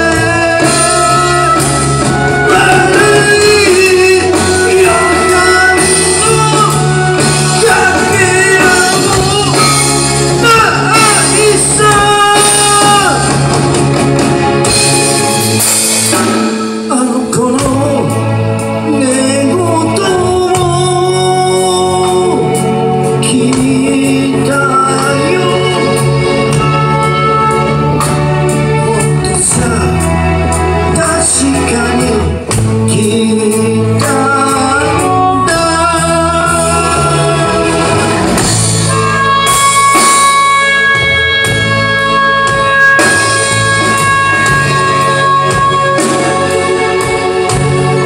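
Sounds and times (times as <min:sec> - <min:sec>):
lead vocal singing: 0:00.0 - 0:48.0
live rock band: 0:00.0 - 0:48.0.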